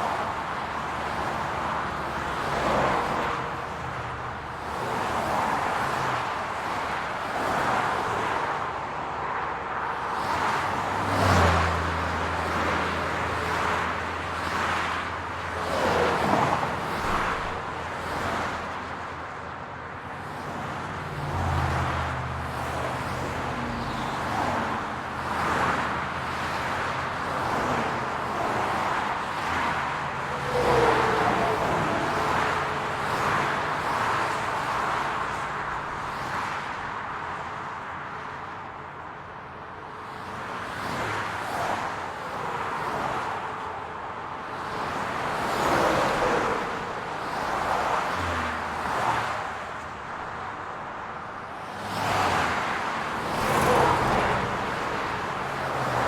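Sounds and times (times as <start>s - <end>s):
cars passing close by: 0.0s - 56.0s
steady hum of cars: 0.0s - 56.0s.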